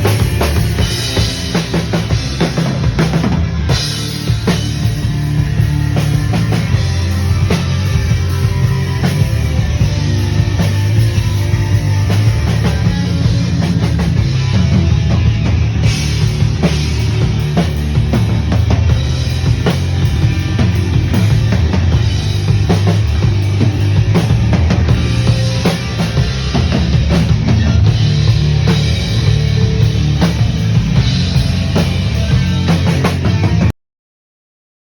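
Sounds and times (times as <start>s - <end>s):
distorted electric guitar: 0.0s - 33.7s
drum kit hitting steadily: 0.0s - 33.7s
bass guitar: 0.0s - 33.8s.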